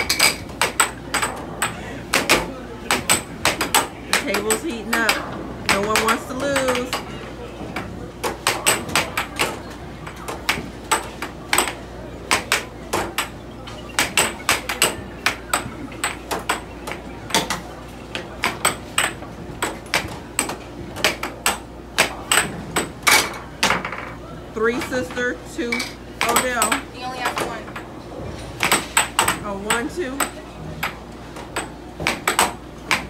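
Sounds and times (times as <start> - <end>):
air hockey puck clacking: 0.0 - 27.9, 28.6 - 33.0.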